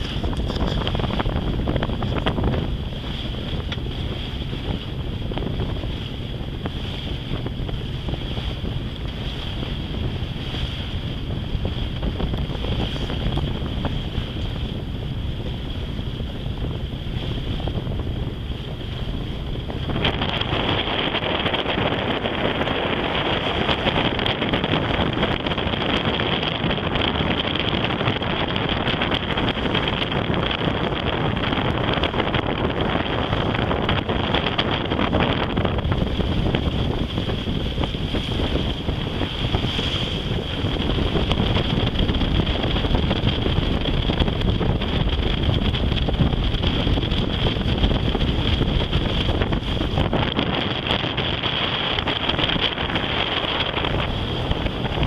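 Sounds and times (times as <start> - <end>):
water wash: 0.0 - 55.0
wind buffeting microphone: 0.0 - 55.0.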